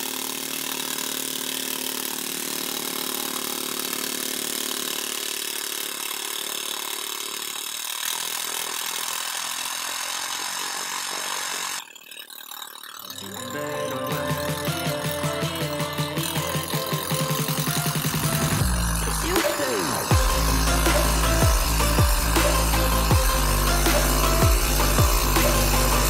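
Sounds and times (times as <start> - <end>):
power tool motor whining: 0.0 - 26.0.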